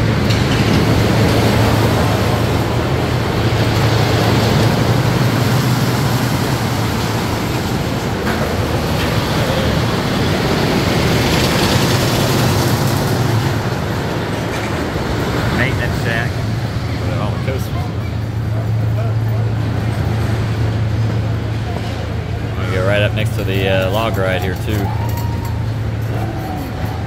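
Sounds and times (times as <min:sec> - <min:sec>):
miniature train rumbling: 0:00.0 - 0:27.0.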